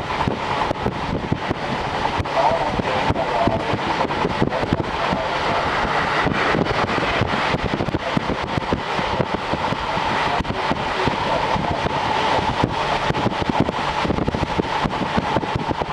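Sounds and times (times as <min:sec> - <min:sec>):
train wheel and rail noise: 0:00.0 - 0:15.9
wind rush: 0:00.0 - 0:15.9.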